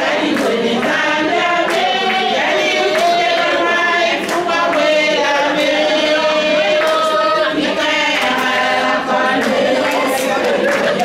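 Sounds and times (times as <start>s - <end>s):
women singing in chorus: 0.0s - 11.0s.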